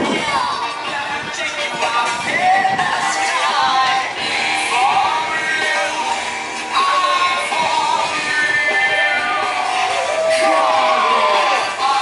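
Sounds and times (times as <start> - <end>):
dance-pop music with singing: 0.0 - 12.0.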